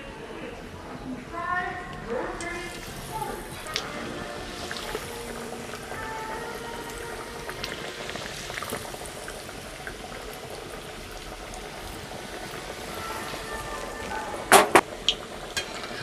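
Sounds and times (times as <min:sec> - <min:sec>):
fish deep-frying in hot oil: 0:01.9 - 0:16.0.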